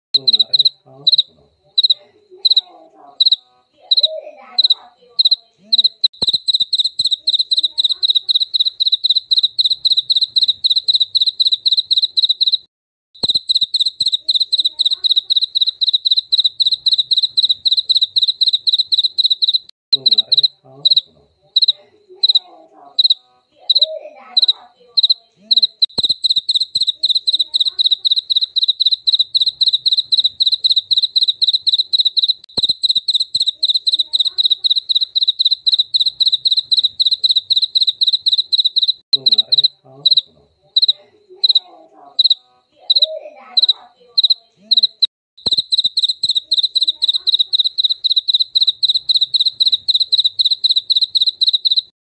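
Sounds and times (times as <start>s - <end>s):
cricket chirping: 0.2s - 51.9s.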